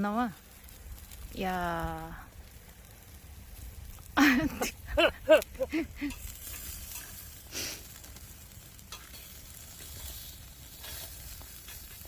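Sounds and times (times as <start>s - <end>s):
fat sizzling on a grill: 0.0s - 12.0s.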